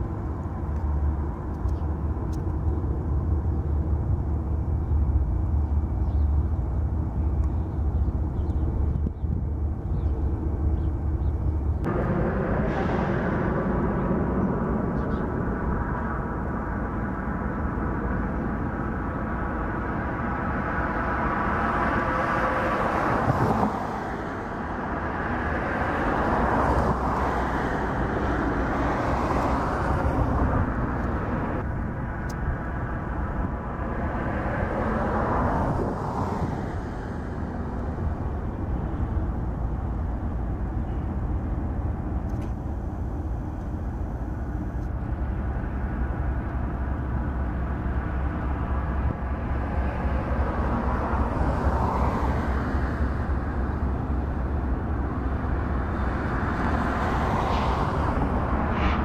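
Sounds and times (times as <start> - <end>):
diesel locomotives running: 0.0 - 59.0
train passing: 0.0 - 59.0.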